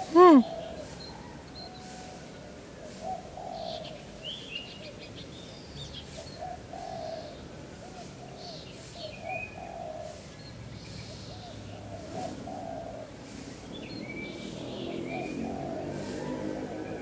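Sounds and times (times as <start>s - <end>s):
bird cooing: 0.0s - 5.0s, 6.2s - 10.3s, 11.0s - 13.6s, 14.8s - 17.0s
birds chirping: 0.0s - 17.0s.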